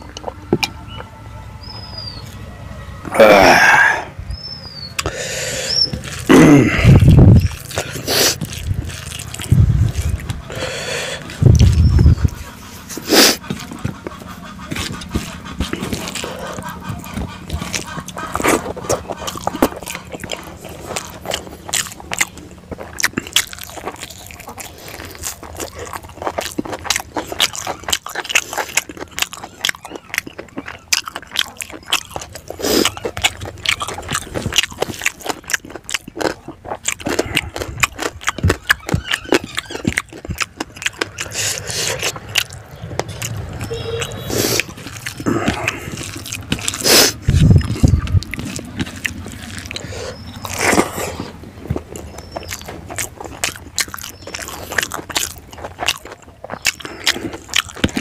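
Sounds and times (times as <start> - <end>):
wet chewing and mouth smacking: 0.0 - 2.4, 3.1 - 58.0.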